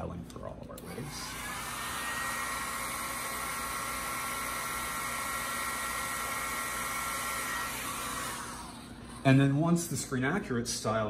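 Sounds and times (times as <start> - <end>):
hair dryer blowing with motor whine: 0.8 - 11.0.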